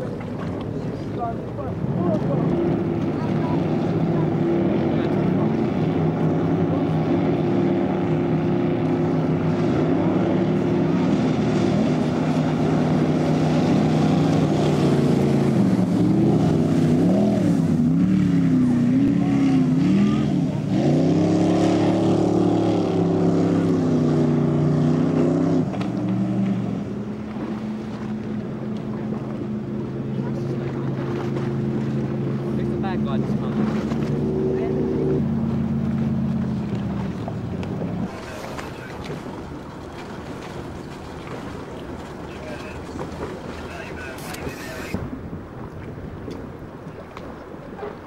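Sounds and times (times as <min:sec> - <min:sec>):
speedboat engine running: 0:00.0 - 0:48.0.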